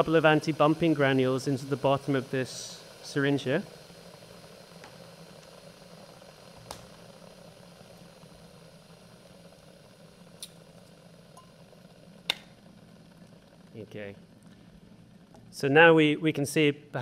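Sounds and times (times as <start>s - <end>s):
electric kettle humming: 0.0s - 17.0s.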